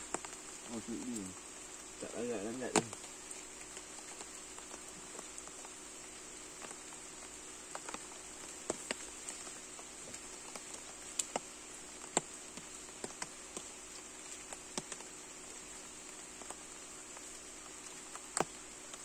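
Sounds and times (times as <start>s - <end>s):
raindrops tapping on poncho: 0.0s - 19.0s.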